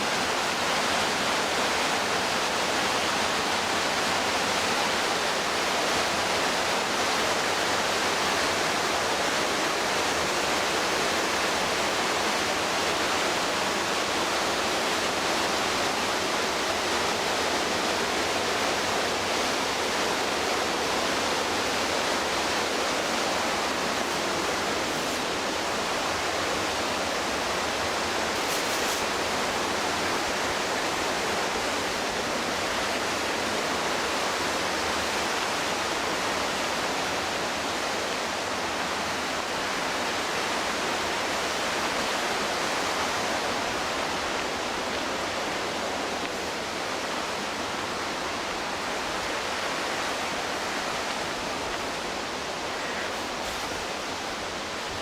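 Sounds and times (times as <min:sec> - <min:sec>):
river whitewater rushing: 0:00.0 - 0:55.0.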